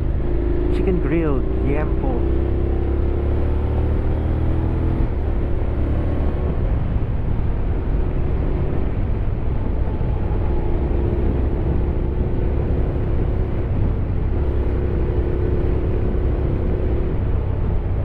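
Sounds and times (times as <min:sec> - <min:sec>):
motorcycle engine humming: 0:00.0 - 0:18.0
wind and road rumble: 0:00.0 - 0:18.0.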